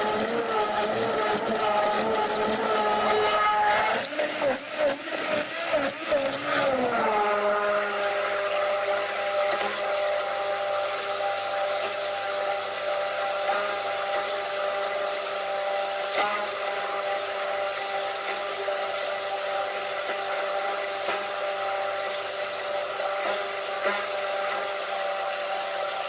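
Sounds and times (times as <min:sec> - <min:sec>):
blender motor whirring: 0:00.0 - 0:26.0.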